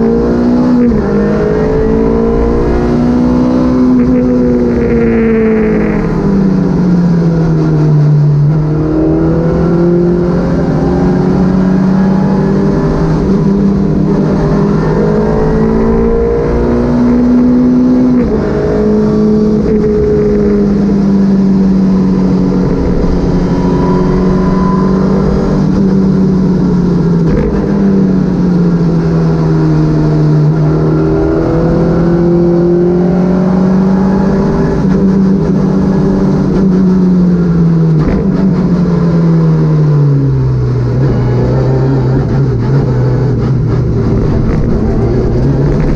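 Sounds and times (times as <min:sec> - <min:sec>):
car engine revving: 0:00.0 - 0:45.9
low road noise rumble: 0:00.0 - 0:45.9.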